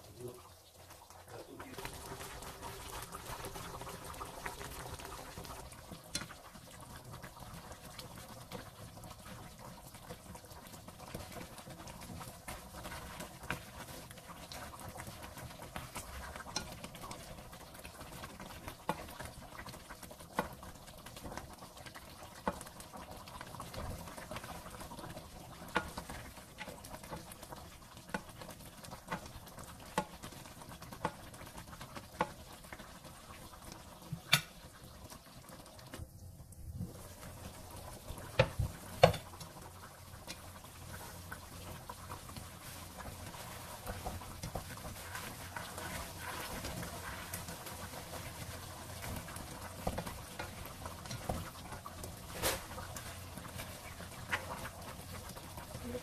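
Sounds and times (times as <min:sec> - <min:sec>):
sauce bubbling in pan: 0:00.0 - 0:56.0.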